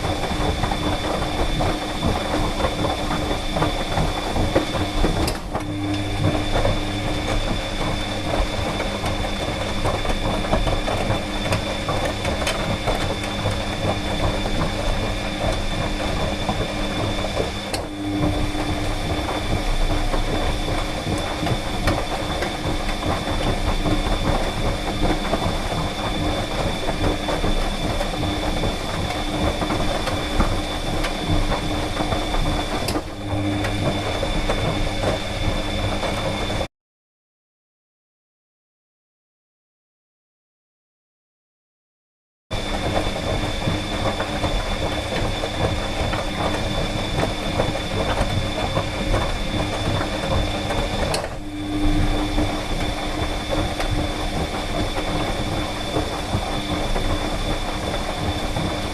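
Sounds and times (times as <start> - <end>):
clothes dryer running: 0.0 - 36.7, 42.5 - 58.9.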